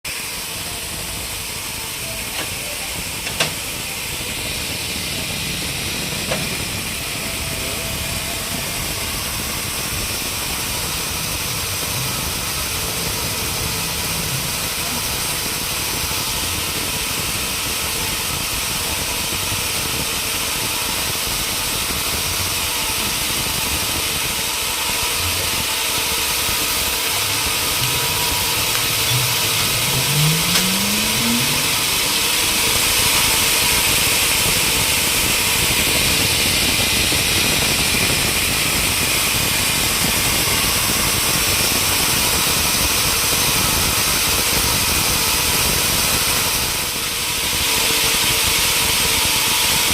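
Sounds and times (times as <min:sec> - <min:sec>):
machinery engine running: 0:00.1 - 0:49.9.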